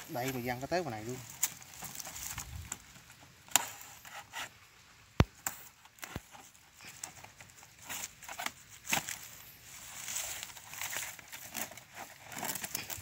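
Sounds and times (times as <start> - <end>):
plastic sack rustling: 0.0 - 4.4, 5.5 - 13.0.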